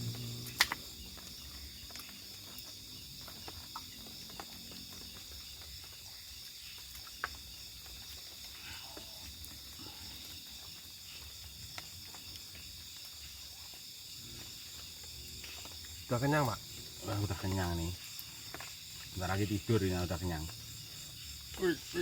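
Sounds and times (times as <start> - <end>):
crickets and insects trilling: 0.0 - 22.0.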